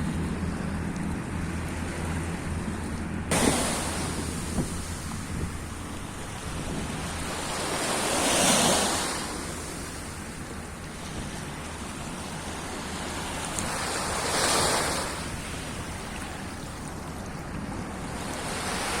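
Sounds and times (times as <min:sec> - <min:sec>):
sea waves washing in: 0:00.0 - 0:19.0.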